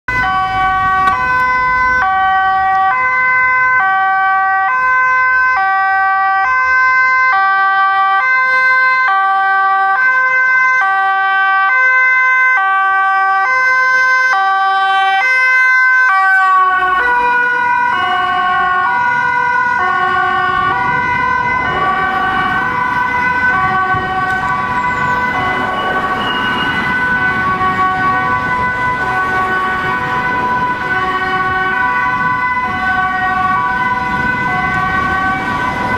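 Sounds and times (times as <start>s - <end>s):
traffic engine and road noise: 0.0s - 35.9s
two-tone emergency siren: 0.1s - 35.9s.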